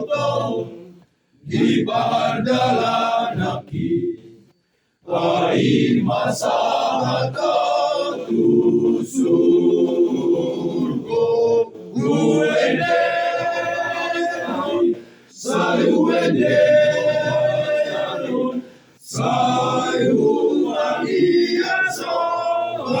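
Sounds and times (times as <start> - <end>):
choir breathing: 0.0 - 23.0
choir singing a hymn: 0.0 - 23.0.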